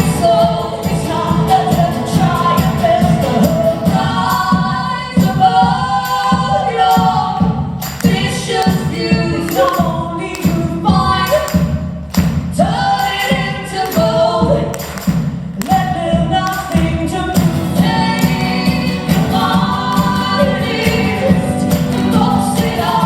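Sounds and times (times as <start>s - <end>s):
voices singing in harmony: 0.0s - 11.6s, 12.5s - 14.9s, 15.7s - 23.0s
strummed percussive accompaniment: 0.0s - 14.1s, 14.8s - 23.0s.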